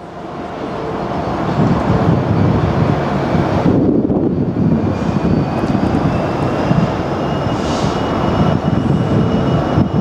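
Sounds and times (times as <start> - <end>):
loud low train rumble: 0.0 - 10.0.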